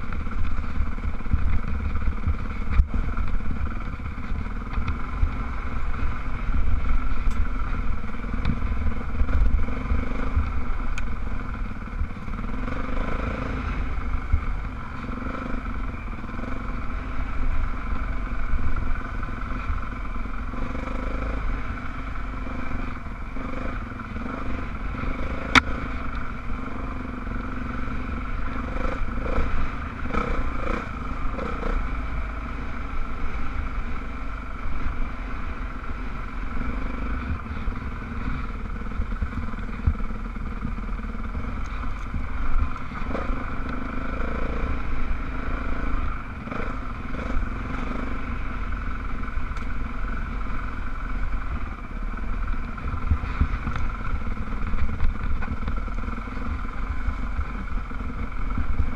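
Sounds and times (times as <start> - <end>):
dirt bike engine running: 0.0 - 58.9
heavy low rumble: 0.0 - 58.9.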